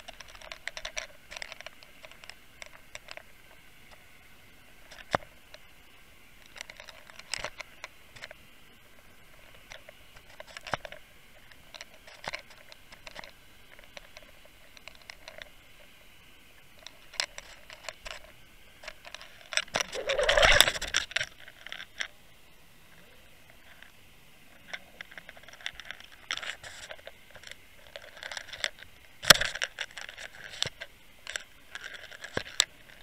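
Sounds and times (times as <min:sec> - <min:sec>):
faint steady hiss: 0:00.0 - 0:33.0.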